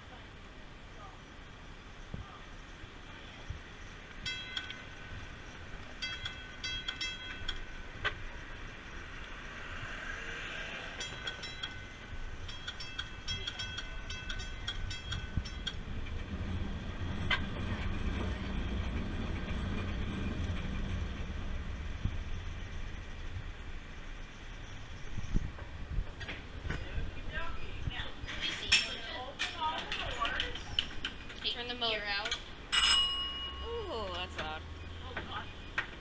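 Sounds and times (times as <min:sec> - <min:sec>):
streetcar machinery rumble: 0:00.0 - 0:36.0
streetcar bell ringing: 0:04.1 - 0:09.8, 0:10.4 - 0:25.3, 0:27.4 - 0:35.8.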